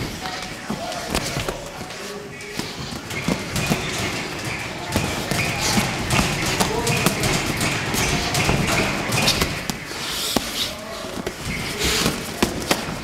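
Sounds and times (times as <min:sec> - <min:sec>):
shuffling footwork: 0:00.0 - 0:13.0.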